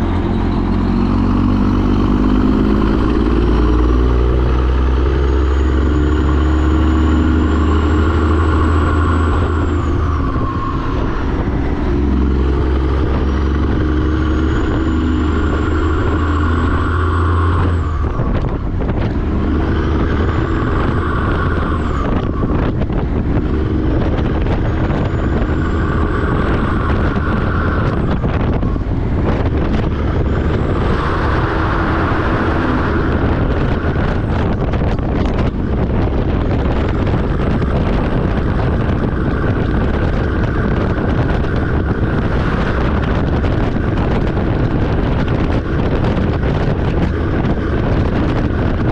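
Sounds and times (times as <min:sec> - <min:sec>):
truck diesel engine shifting gears: 0:00.0 - 0:48.9.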